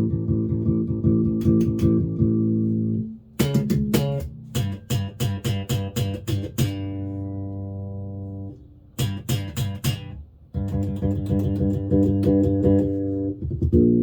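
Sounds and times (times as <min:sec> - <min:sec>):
electric bass notes: 0:00.0 - 0:14.0.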